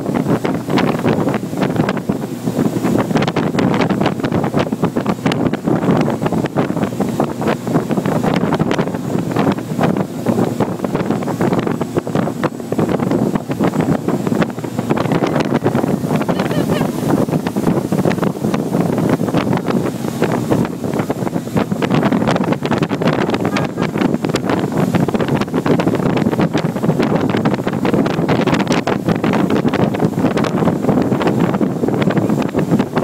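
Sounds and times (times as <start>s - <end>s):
water rushing from boat wake: 0.0s - 33.0s
wind buffeting microphone: 0.0s - 33.0s.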